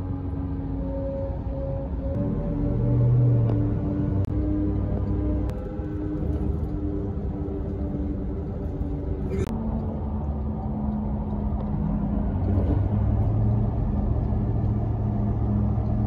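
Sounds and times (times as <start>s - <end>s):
truck road and engine noise: 0.0s - 16.0s.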